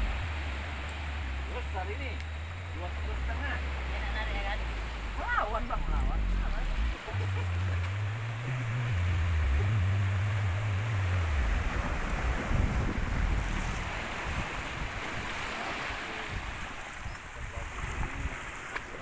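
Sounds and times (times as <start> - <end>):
strong low rumble: 0.0 - 15.3
sea waves washing: 0.0 - 19.0
wind buffeting microphone: 0.0 - 19.0.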